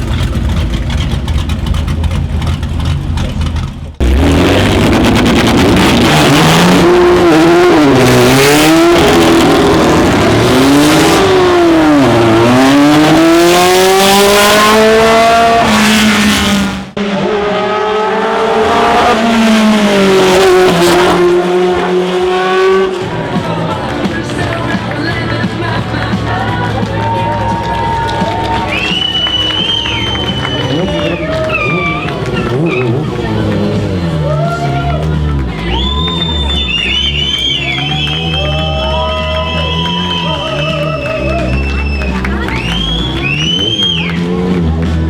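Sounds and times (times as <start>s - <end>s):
racing car engines revving: 0.0s - 45.0s.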